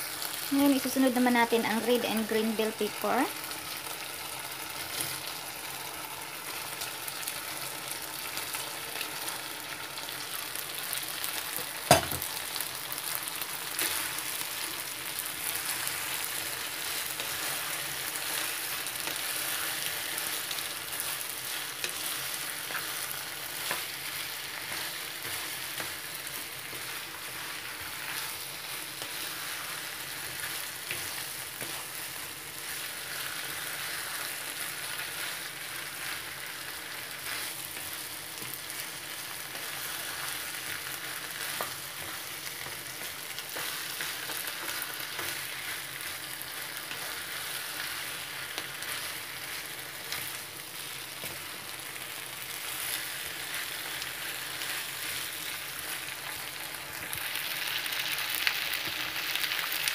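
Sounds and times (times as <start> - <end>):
stir fry sizzling in pan: 0.0 - 59.9.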